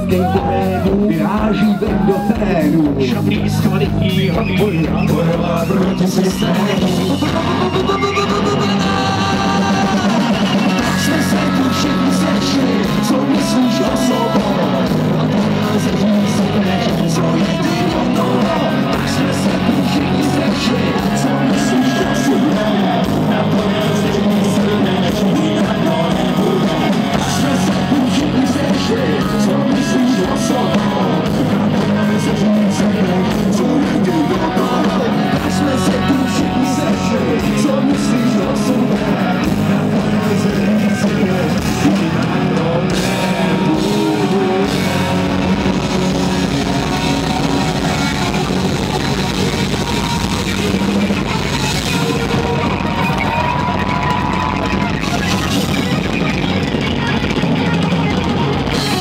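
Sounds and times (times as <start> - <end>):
person singing: 0.0 - 59.0
rock band playing live: 0.0 - 59.0.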